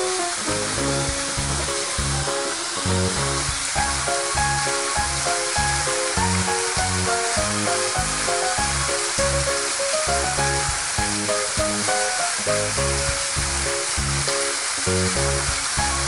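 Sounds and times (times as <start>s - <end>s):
constant hiss: 0.0s - 16.0s
music with bass beat: 0.5s - 12.0s, 12.6s - 16.0s.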